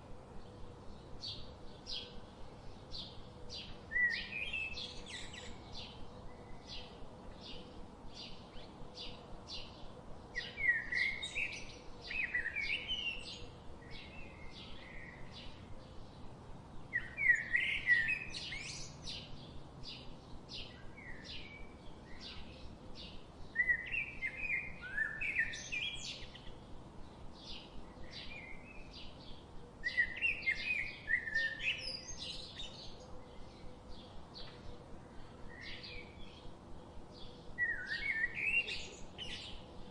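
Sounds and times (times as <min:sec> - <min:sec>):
warbled birdsong phrases: 0:00.5 - 0:39.9.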